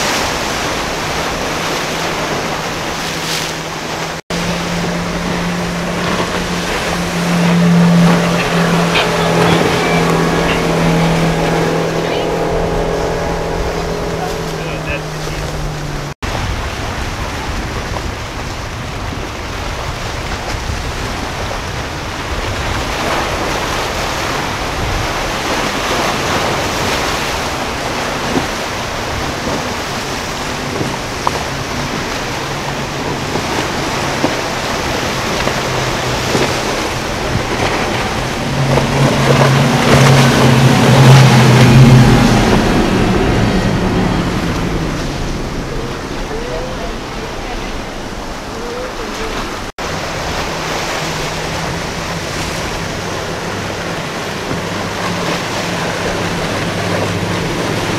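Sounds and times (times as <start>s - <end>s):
boat spray through waves: 0.0s - 57.9s
choppy water rushing: 0.0s - 57.9s
outboard motors droning: 0.0s - 57.9s.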